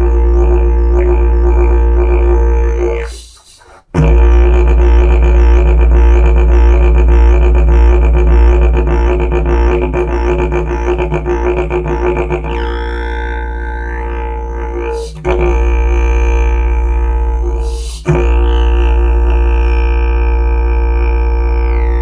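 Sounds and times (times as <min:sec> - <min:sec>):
didgeridoo droning: 0:00.0 - 0:03.4, 0:04.0 - 0:22.0.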